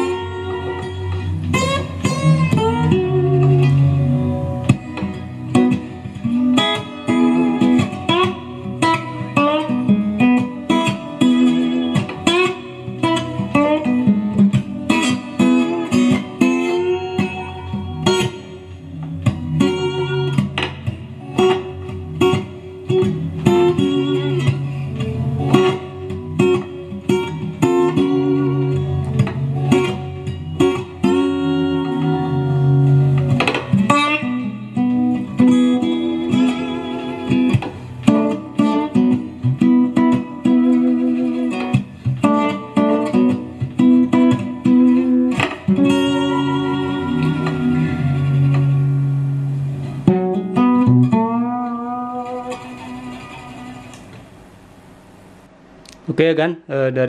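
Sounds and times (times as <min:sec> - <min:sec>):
guitar music with plucked notes: 0:00.0 - 0:55.5.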